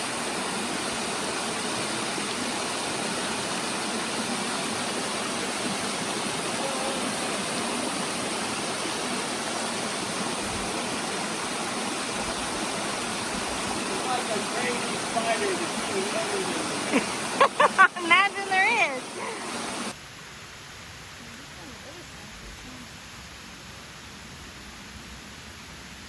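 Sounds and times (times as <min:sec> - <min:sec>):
water rushing in stream and waterfall: 0:00.0 - 0:26.0.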